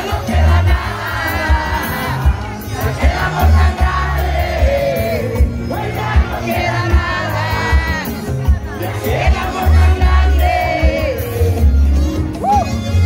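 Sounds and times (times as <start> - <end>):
crowd cheering and singing: 0.0 - 13.0
live band playing: 0.0 - 13.0.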